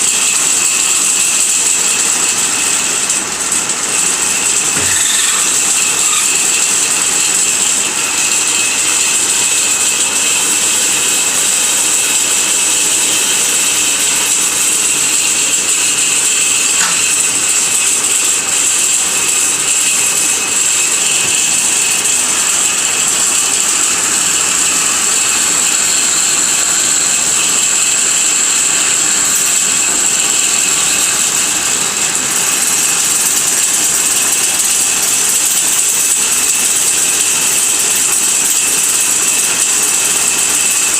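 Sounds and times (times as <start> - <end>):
lathe running with high whine: 0.0 - 40.9.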